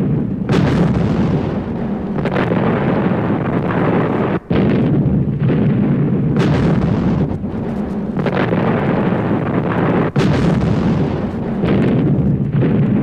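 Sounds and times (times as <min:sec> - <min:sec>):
explosions and artillery fire: 0:00.0 - 0:13.0
sharp blasts: 0:00.0 - 0:13.0.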